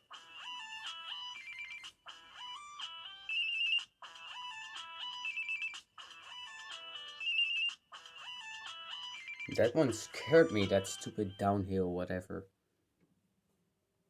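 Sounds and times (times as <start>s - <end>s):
electronic ringtone melody: 0.0s - 11.6s.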